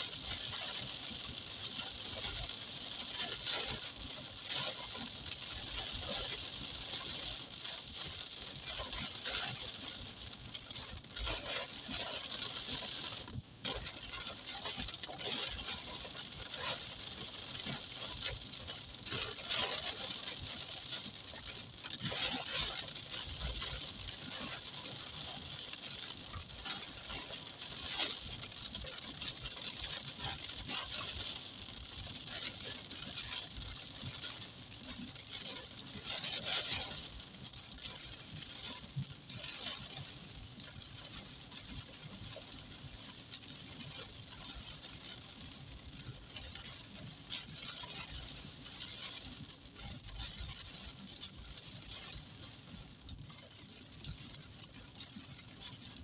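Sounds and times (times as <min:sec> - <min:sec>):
rain on car windshield and roof: 0:00.0 - 0:56.0.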